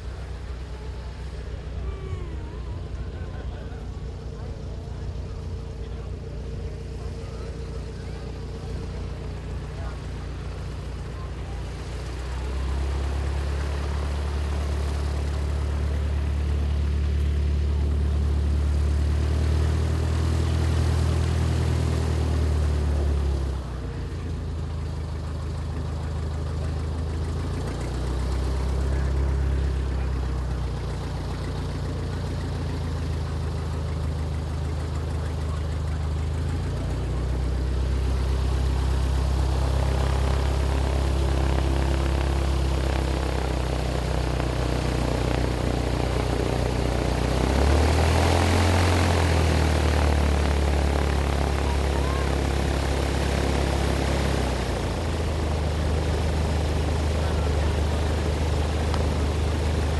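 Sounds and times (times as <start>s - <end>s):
engine idling with low rumble: 0.0s - 59.9s.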